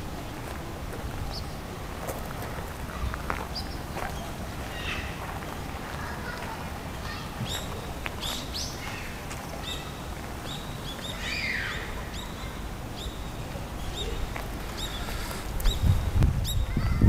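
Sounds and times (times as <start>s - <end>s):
small birds chirping: 1.2s - 17.0s.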